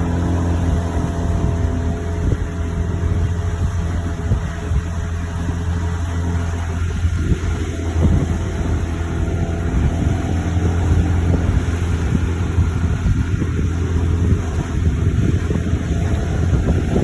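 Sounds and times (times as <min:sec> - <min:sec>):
boat engine humming: 0:00.0 - 0:17.0
water rushing past hull: 0:00.0 - 0:17.0
wind buffeting microphone: 0:00.0 - 0:17.0.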